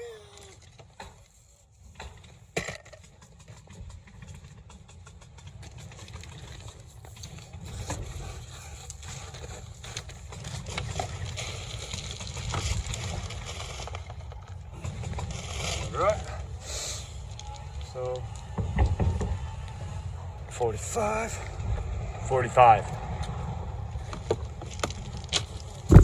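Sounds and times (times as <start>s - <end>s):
excavator engine rumbling: 2.6s - 26.0s.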